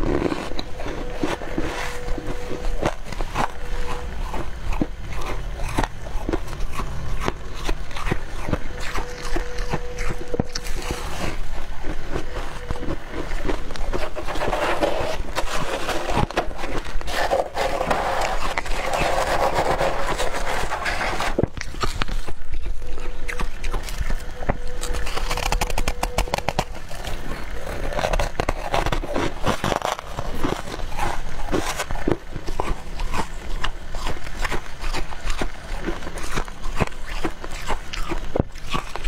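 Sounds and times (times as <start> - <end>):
crunching and chewing frost: 0.0 - 39.0.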